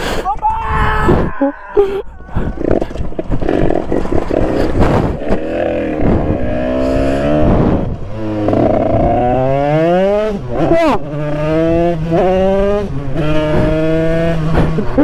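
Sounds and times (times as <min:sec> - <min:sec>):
wind rush on microphone: 0:00.0 - 0:09.5, 0:11.6 - 0:15.0
dirt bike accelerating hard: 0:02.5 - 0:15.0.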